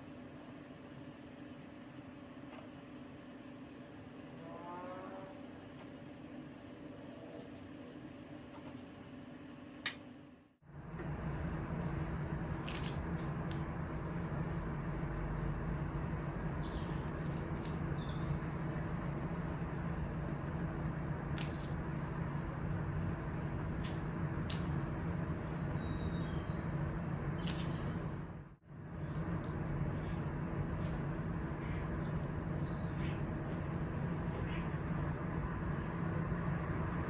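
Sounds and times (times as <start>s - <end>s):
low hum and hiss: 0.0s - 37.0s.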